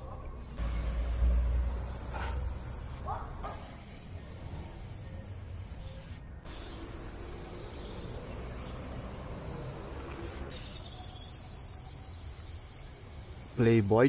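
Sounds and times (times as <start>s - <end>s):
spray paint can hissing: 0.6s - 14.0s.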